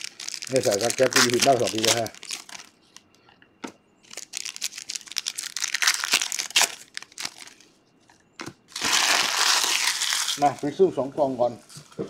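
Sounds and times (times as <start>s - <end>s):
card pack wrapper crinkling: 0.0s - 7.7s, 8.4s - 10.7s.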